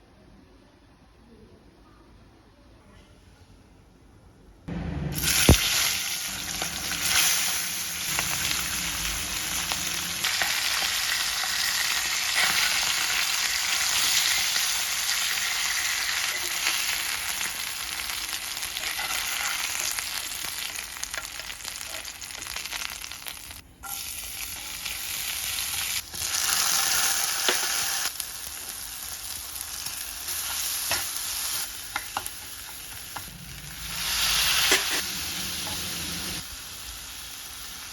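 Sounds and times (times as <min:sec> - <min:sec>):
food sizzling in hot oil: 0:05.1 - 0:37.9.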